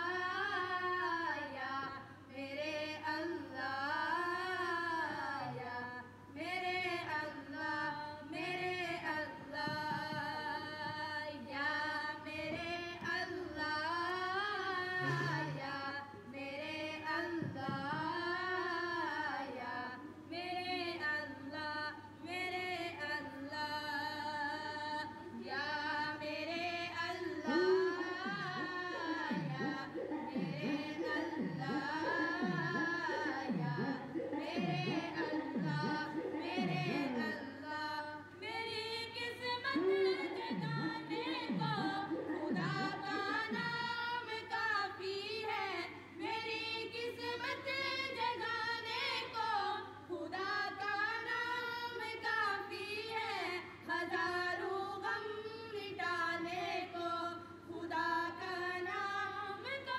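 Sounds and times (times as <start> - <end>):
unaccompanied devotional singing: 0.0 - 59.9.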